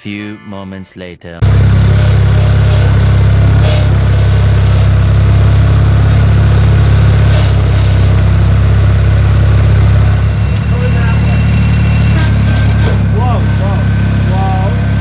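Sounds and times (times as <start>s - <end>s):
lawn tractor engine running: 1.4s - 15.0s.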